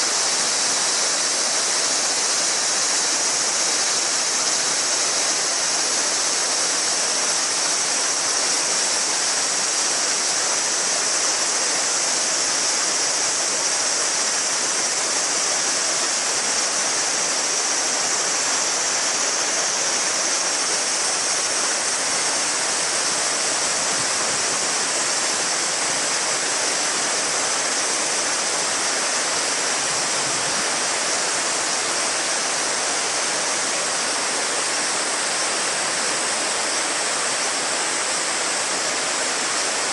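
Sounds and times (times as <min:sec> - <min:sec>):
cicadas buzzing: 0:00.0 - 0:39.9
river murmuring over stones: 0:00.0 - 0:39.9.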